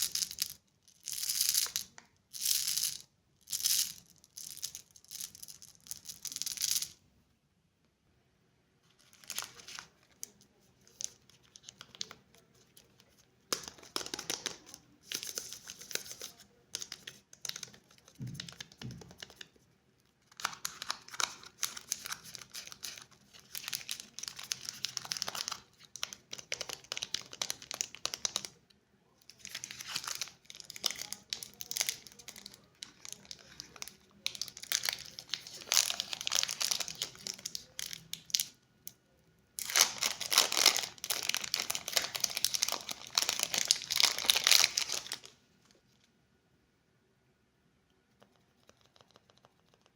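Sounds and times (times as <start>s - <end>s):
candy wrappers crinkling: 0.0s - 7.0s, 9.0s - 19.5s, 20.2s - 28.6s, 29.3s - 38.6s, 39.6s - 45.4s.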